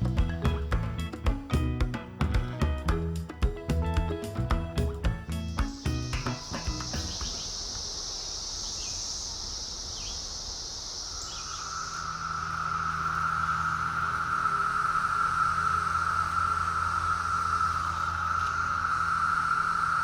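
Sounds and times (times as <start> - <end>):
cicadas buzzing: 0.0 - 20.0
lower cicada drone: 0.0 - 20.0.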